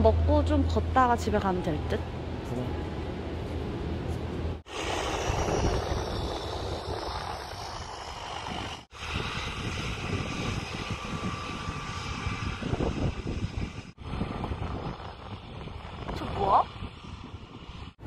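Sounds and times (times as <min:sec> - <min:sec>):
propeller plane engine: 0:02.1 - 0:18.0.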